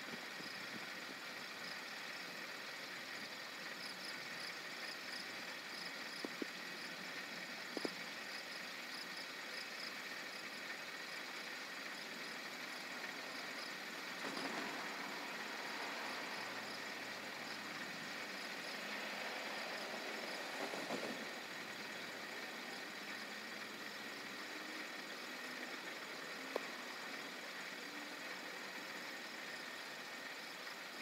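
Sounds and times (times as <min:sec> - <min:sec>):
insects chirping: 0:00.0 - 0:31.0
steady hiss: 0:00.0 - 0:31.0.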